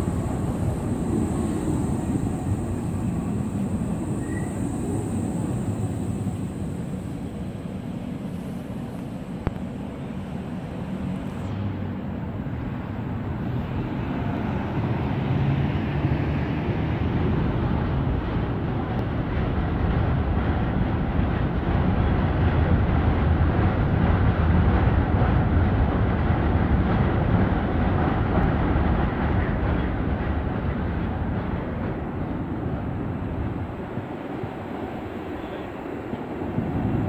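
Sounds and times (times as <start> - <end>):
road traffic: 0.0 - 37.0
trams running on tracks: 0.0 - 37.0.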